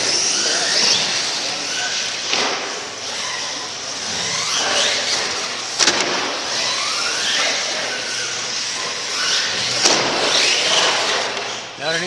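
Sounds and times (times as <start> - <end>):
truck engine revving: 0.0 - 11.7.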